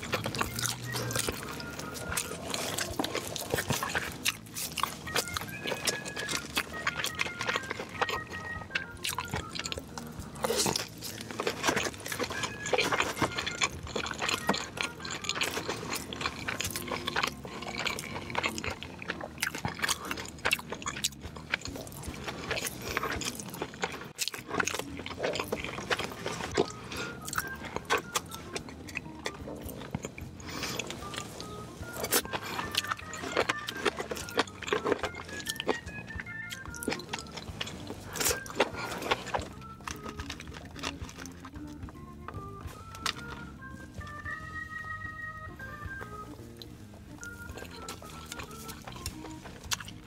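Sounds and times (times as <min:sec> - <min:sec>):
chewing with crunches: 0:00.0 - 0:50.0.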